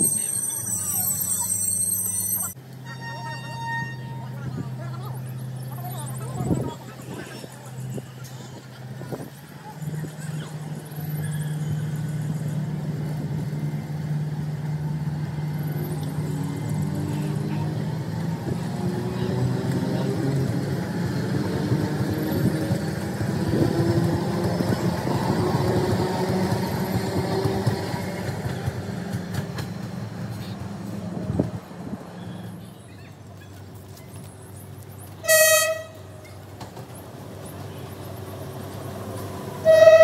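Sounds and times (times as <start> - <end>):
train wheels rumbling and clattering: 6.4 - 32.0, 33.3 - 40.0.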